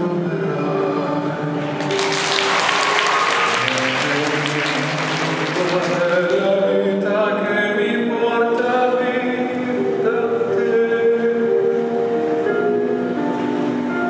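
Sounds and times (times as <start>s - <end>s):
music with choir-like singing: 0.0s - 14.0s.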